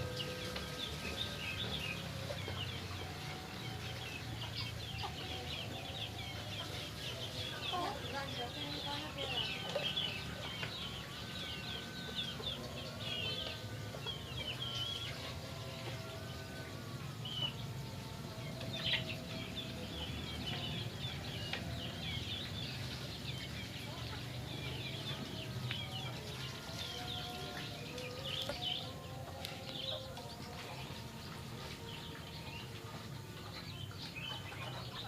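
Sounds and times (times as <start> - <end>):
chickens clucking: 0.0 - 35.0
small birds chirping: 0.0 - 35.0.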